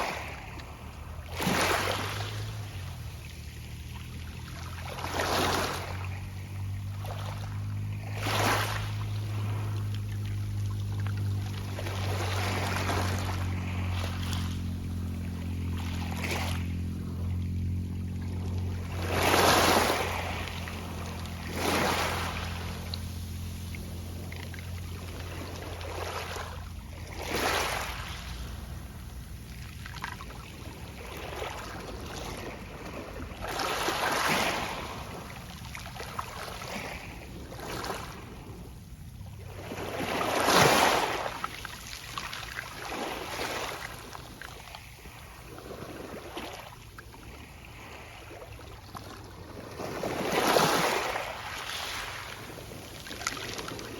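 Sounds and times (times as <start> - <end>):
small waves breaking: 0.0 - 53.9.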